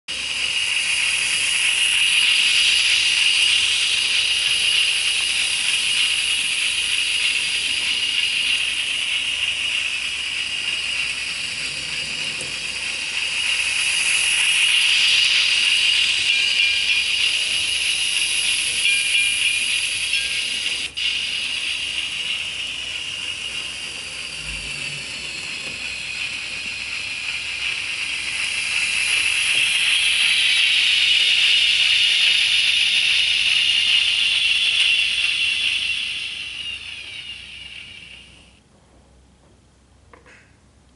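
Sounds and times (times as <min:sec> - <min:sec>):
model train whirring: 0:00.1 - 0:38.6.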